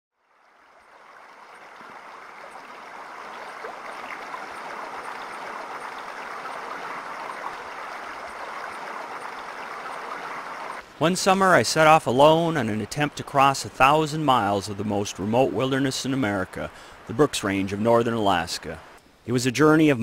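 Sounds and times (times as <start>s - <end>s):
creek babbling over stones: 0.2s - 19.0s.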